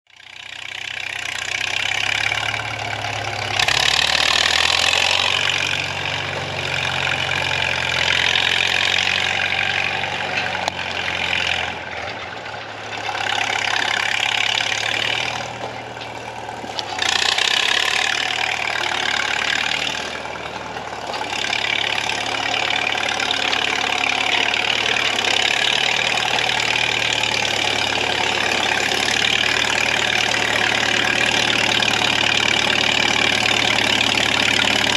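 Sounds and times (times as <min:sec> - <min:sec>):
crawler tractor engine running: 0:00.1 - 0:34.9.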